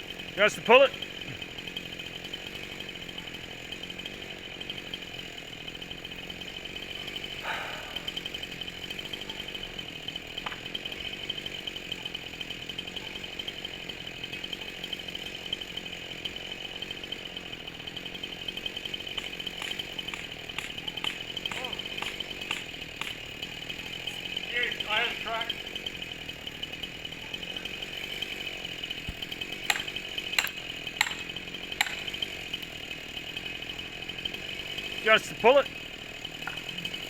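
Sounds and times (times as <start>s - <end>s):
chainsaw cutting wood: 0.0s - 37.0s.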